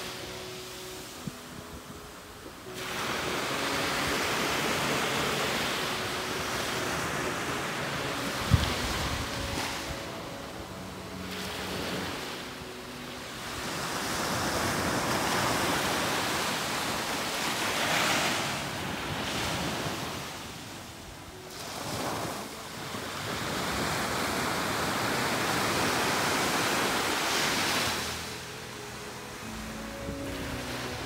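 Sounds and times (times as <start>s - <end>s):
small waves breaking on beach: 2.6s - 31.0s.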